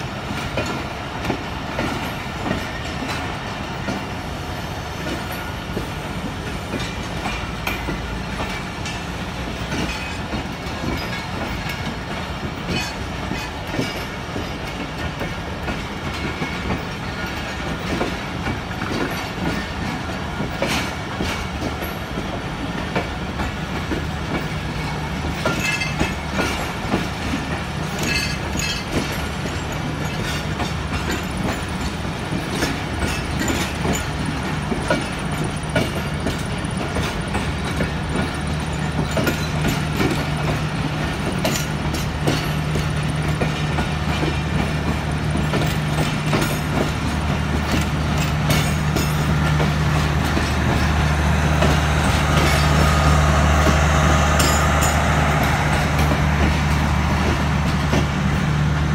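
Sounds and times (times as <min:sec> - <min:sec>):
train wheels clacking on rails: 0:00.0 - 0:58.9.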